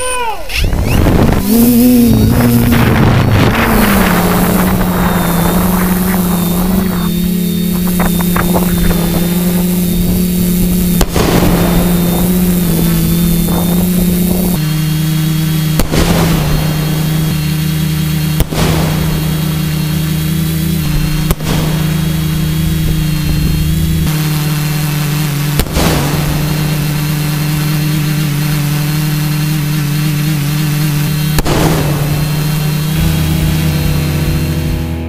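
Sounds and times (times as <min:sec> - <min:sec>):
drone propellers humming: 0:00.0 - 0:35.0.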